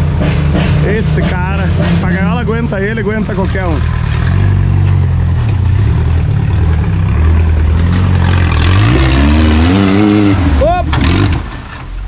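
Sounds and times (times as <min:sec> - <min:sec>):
buggy engine at low revs: 0:00.0 - 0:12.0.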